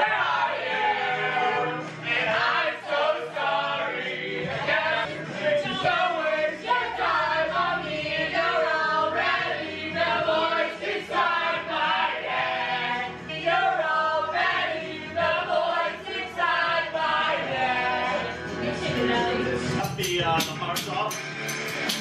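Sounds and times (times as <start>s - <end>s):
group singing karaoke: 0.0s - 19.9s
karaoke backing track: 0.0s - 22.0s.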